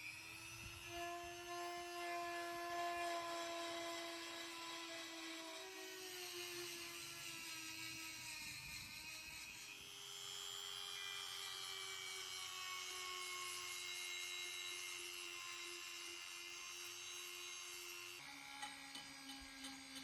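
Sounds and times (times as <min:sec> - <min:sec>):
high-speed power tool whining: 0:00.0 - 0:20.0.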